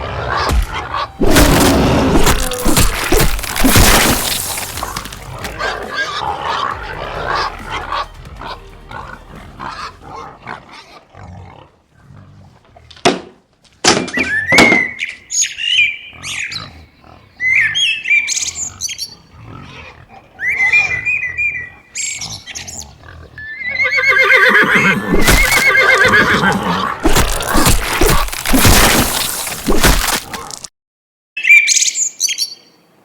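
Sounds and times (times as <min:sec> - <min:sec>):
pigs squealing and grunting: 0:00.0 - 0:13.0, 0:15.6 - 0:30.6.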